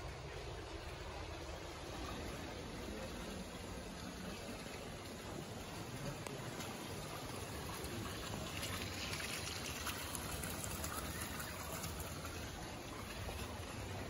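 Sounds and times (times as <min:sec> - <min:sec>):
water gushing and trickling: 0:00.0 - 0:14.0.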